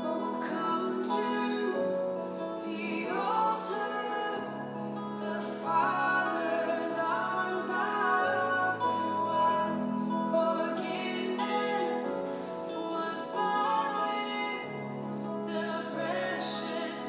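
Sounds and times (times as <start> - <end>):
person singing worship song: 0.0 - 17.0.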